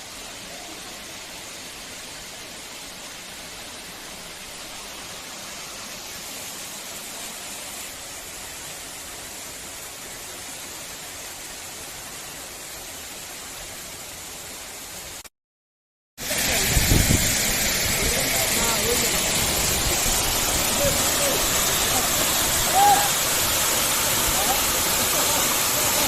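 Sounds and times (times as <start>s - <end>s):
waterfall rushing: 0.0s - 15.2s, 16.2s - 26.0s.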